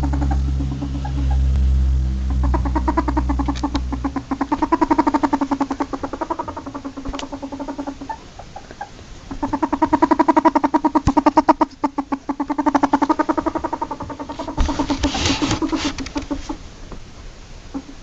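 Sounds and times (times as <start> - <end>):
ferret clucking: 0.0 - 16.7, 17.7 - 18.0.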